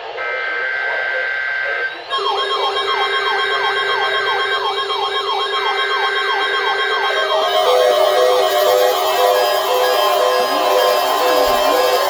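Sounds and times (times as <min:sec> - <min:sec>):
electronic siren sweeping downward: 0:00.2 - 0:12.0
steady held tones: 0:01.8 - 0:12.0.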